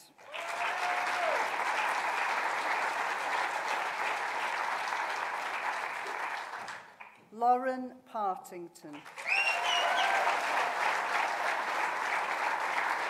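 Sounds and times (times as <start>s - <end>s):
audience applause: 0.0s - 7.2s, 9.0s - 13.0s.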